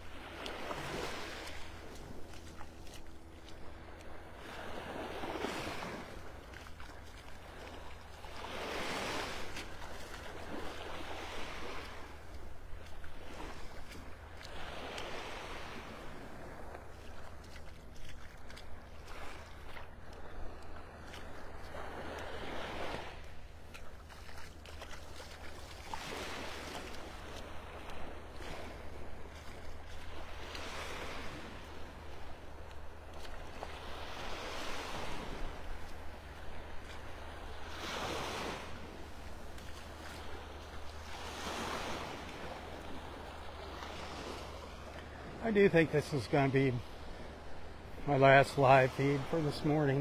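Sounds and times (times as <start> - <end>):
small waves lapping on sand: 0.0 - 50.0.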